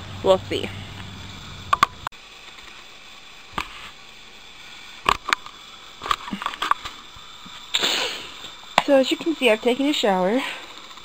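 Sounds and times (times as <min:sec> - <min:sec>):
low outdoor hum: 0:00.0 - 0:11.0.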